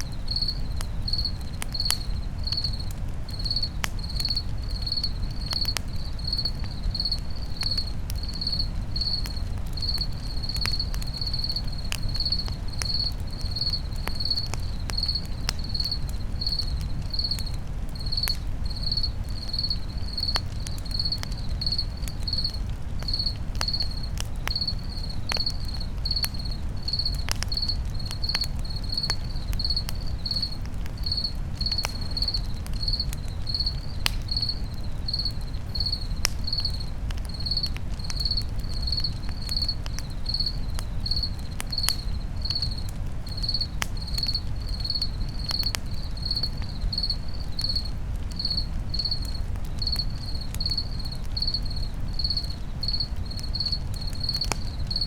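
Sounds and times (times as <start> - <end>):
crackling campfire: 0.0 - 55.0
cricket chirping: 0.0 - 55.0
fire popping: 0.0 - 55.0.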